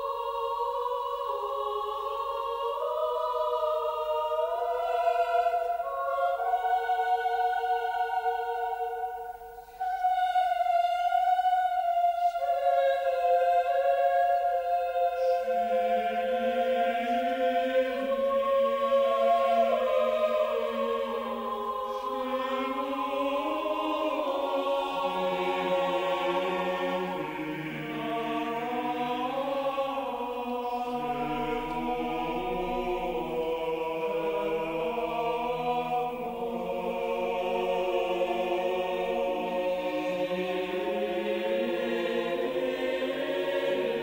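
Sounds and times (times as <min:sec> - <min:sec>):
choir singing sustained chords: 0:00.0 - 0:44.0.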